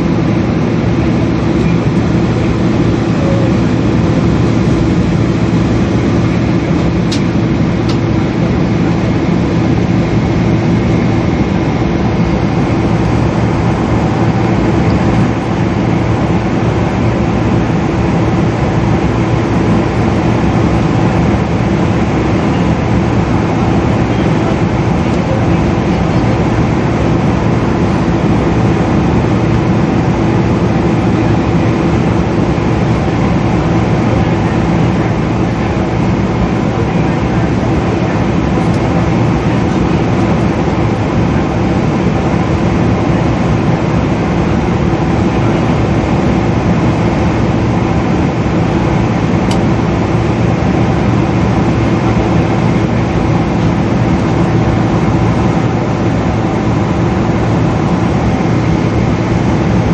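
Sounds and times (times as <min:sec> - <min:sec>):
airplane cabin engine rush: 0:00.0 - 0:59.9.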